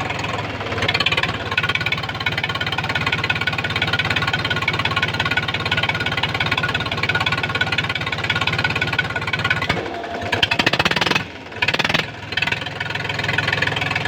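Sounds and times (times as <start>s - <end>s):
tractor engine chugging: 0.0s - 14.0s.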